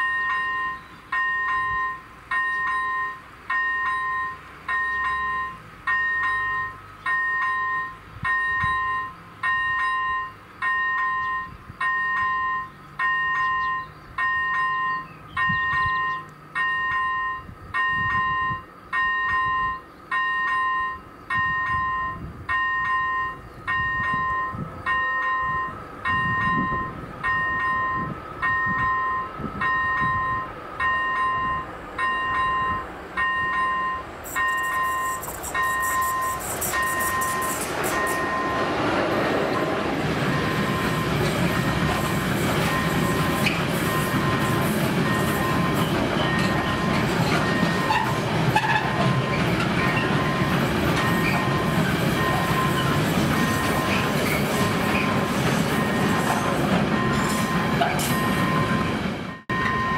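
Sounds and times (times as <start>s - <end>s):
level crossing warning bell: 0.0s - 38.8s, 39.5s - 59.9s
approaching train rumble: 0.0s - 59.9s.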